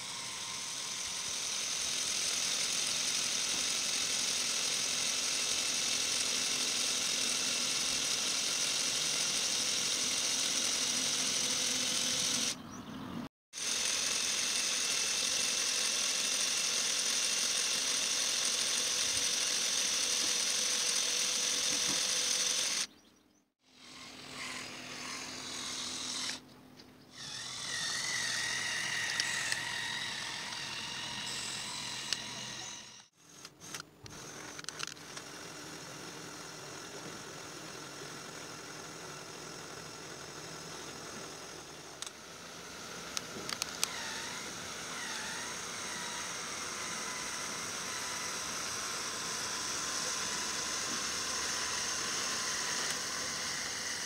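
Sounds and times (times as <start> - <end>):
small electric motors whining: 0.0 - 12.8, 13.6 - 26.5, 27.1 - 54.0.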